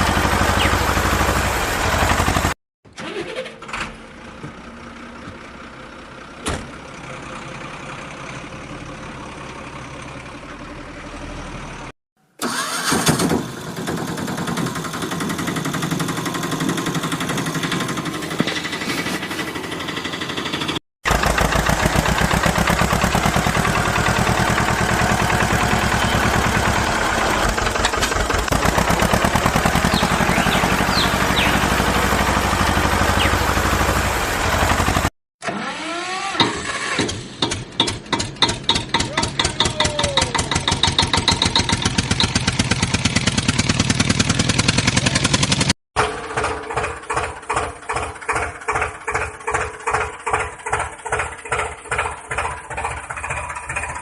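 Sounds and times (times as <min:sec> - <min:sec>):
motor vehicle engine running: 0:00.0 - 0:02.6, 0:04.0 - 0:12.7, 0:13.4 - 0:35.1, 0:37.6 - 0:54.0.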